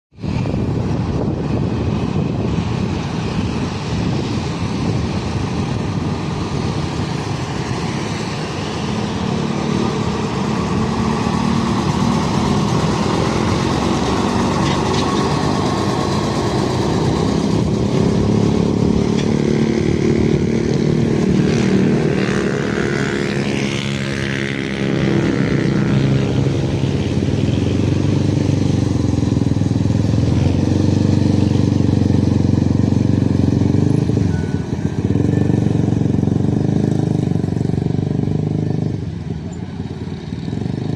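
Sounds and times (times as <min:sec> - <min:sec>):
road traffic: 0:00.1 - 0:40.9
truck engine running: 0:00.5 - 0:40.9.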